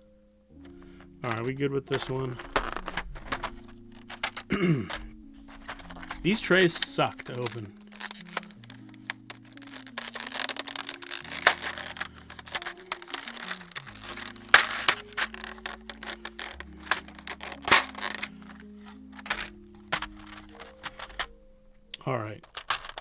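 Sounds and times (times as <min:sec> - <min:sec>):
background music: 0:00.0 - 0:23.0
plastic crinkling: 0:00.0 - 0:23.0
sharp plastic clicks: 0:00.6 - 0:23.0.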